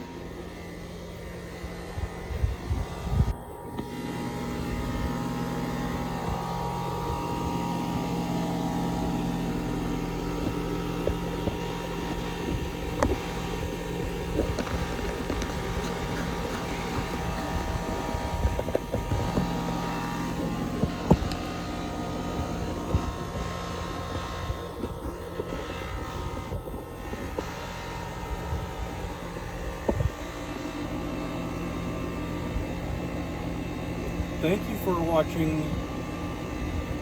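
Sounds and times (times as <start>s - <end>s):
air conditioner condenser humming: 0.0s - 37.0s.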